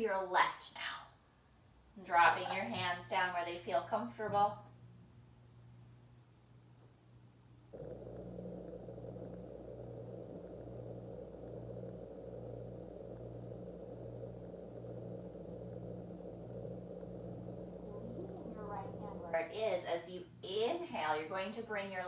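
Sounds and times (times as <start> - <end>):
machine hum with low throb: 1.1 - 22.0.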